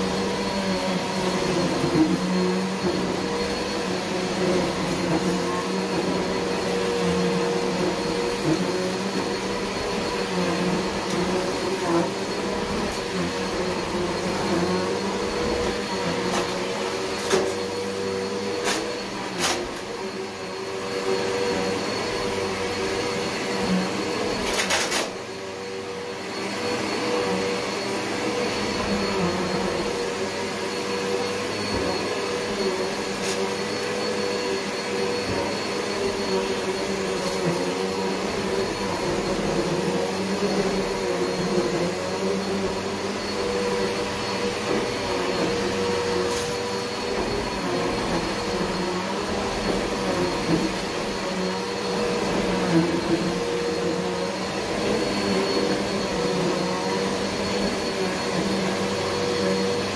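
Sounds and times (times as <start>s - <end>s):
vacuum cleaner running over carpet: 0.0s - 59.9s.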